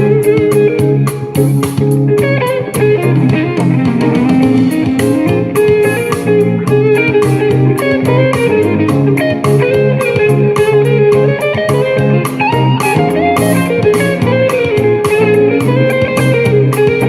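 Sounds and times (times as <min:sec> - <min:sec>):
instrumental pop music on speaker: 0:00.0 - 0:17.0.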